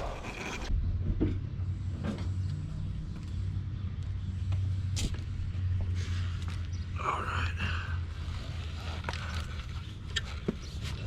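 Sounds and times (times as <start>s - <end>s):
low engine-like hum: 0.7s - 11.0s.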